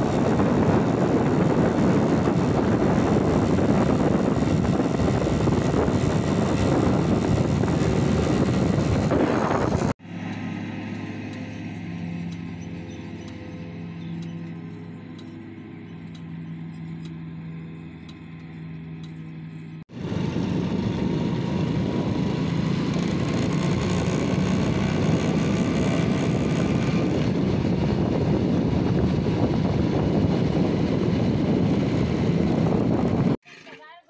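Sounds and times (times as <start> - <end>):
motorcycle riding: 0.0 - 34.0.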